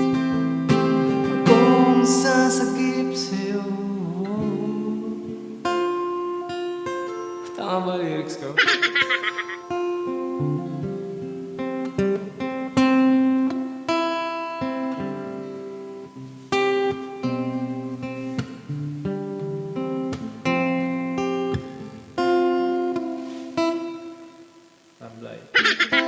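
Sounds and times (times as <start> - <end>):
guitar strumming chords: 0.0 - 24.6, 25.6 - 26.0.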